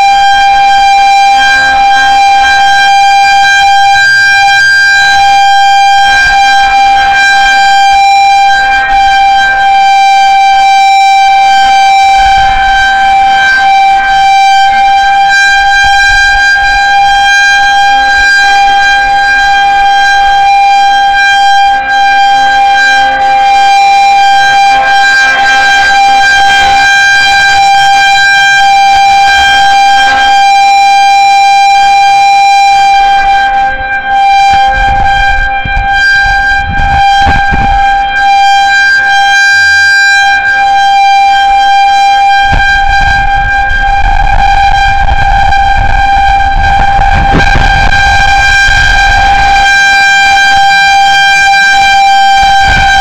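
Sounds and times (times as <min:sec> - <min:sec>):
outdoor warning siren steady tone: 0:00.0 - 0:53.0.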